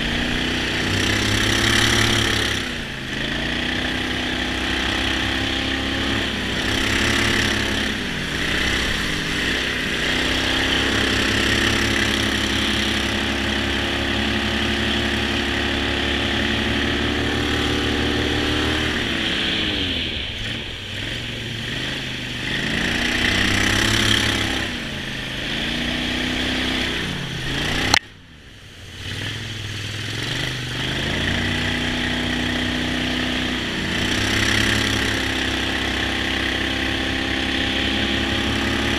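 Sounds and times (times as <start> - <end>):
outboard engine running: 0.0 - 38.9.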